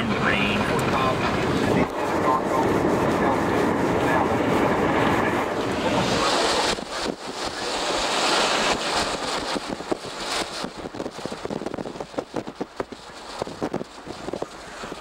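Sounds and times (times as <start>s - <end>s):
short pops and buffets: 0.0s - 15.0s
vehicle road noise: 0.0s - 15.0s
wind on microphone: 0.0s - 15.0s.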